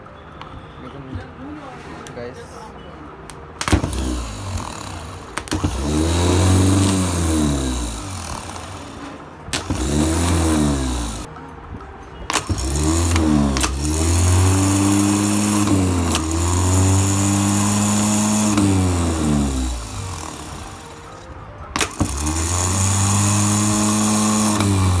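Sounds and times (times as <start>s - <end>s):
starter motor spinning: 3.6s - 11.3s, 12.3s - 25.0s.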